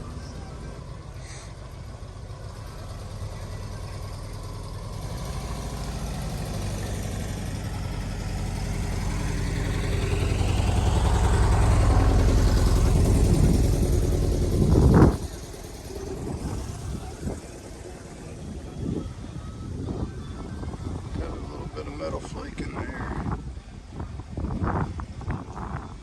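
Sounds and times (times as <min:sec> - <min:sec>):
car engine running: 0:00.0 - 0:23.6.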